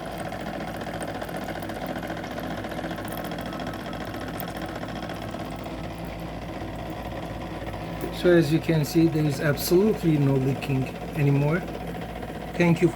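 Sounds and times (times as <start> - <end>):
cooling unit humming and rattling: 0.0 - 12.9.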